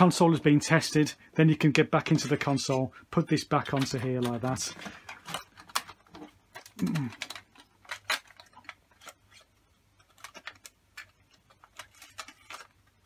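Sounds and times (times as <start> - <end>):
console parts clicking and tapping: 2.0 - 13.0.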